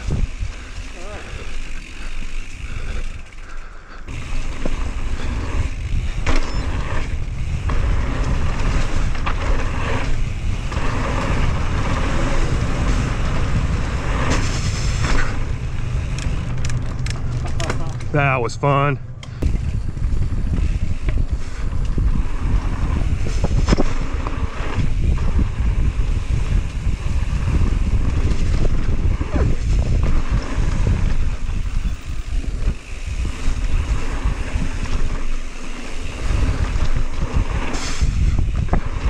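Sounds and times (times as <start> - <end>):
wind buffeting microphone: 0.0 - 3.5, 4.1 - 17.8, 19.4 - 39.0
bike knocks and rattles: 4.1 - 18.2, 19.4 - 39.0.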